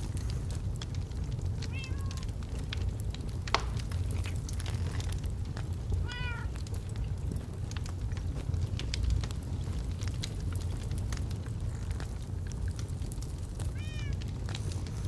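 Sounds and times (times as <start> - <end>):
logs crackling in fireplace: 0.0 - 15.0
low steady rumble: 0.0 - 15.0.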